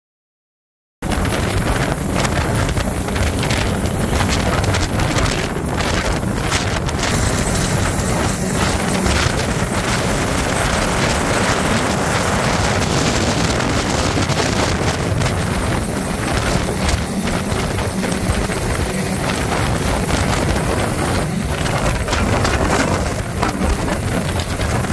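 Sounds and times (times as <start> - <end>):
helicopter hovering: 1.0 - 24.9
rotor wash buffeting microphone: 1.0 - 24.9.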